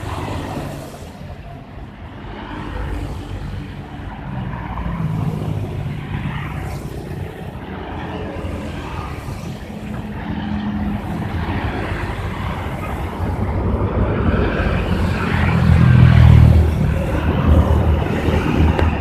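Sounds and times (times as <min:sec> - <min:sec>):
bus engine rumble: 0:00.0 - 0:19.0
road noise: 0:00.0 - 0:19.0.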